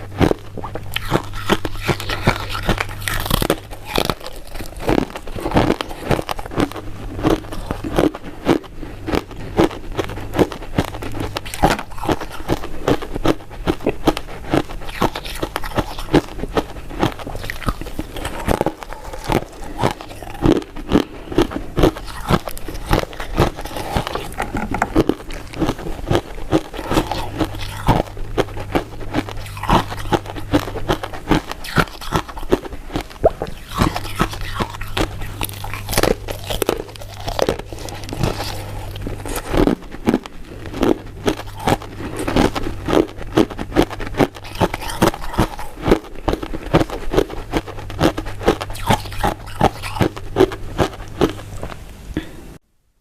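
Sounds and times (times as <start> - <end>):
crunchy chewing of sweets: 0.0 - 52.4.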